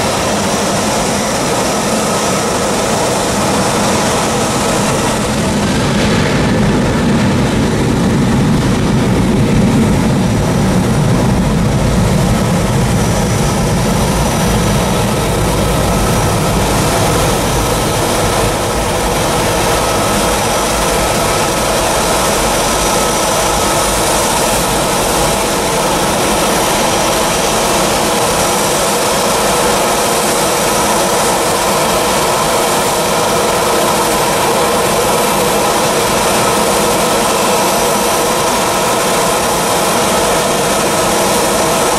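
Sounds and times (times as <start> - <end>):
jet engines roaring with whine: 0.0 - 41.9.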